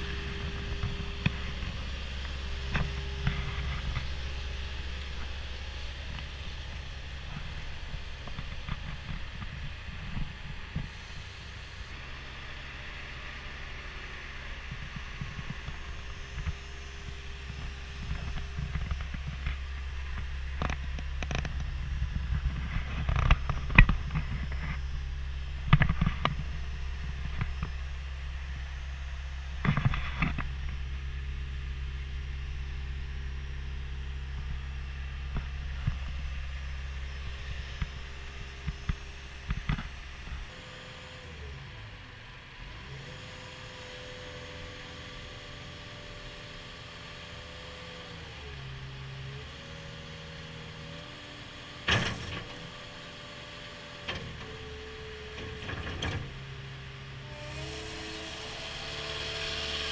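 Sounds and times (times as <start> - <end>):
diesel engine idling: 0.0 - 51.8.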